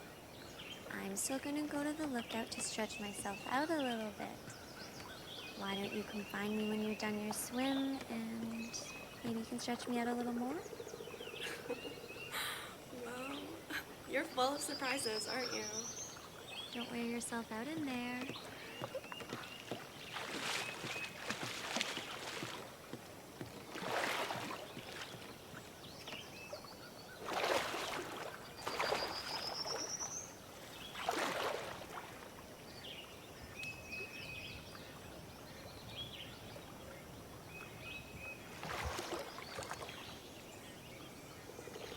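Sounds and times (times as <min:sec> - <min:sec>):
water splashing from swimming: 0:00.0 - 0:33.3, 0:36.5 - 0:41.9
small birds chirping: 0:00.0 - 0:41.9.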